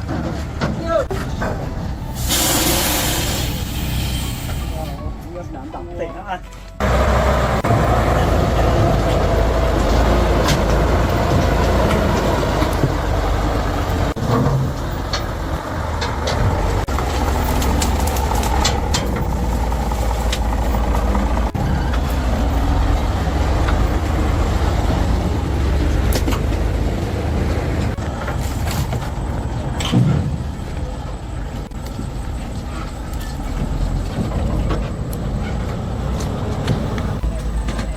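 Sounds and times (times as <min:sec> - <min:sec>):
truck engine rumble: 0:00.0 - 0:37.9.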